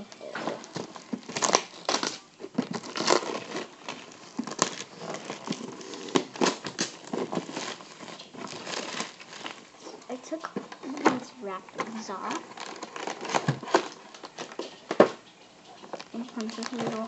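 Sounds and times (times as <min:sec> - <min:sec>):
wrapping tearing and crinkling: 0:00.0 - 0:17.0.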